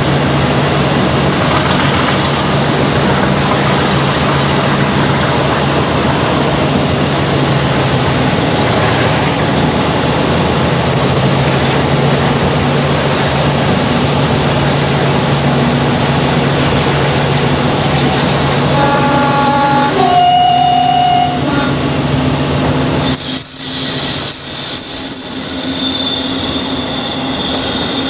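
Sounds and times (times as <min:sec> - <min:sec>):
locomotive diesel engine drone: 0:00.0 - 0:28.0.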